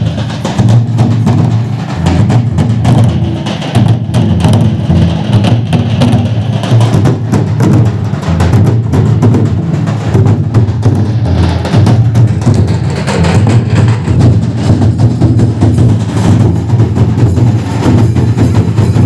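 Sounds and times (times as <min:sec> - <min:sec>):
drums booming: 0:00.0 - 0:19.0.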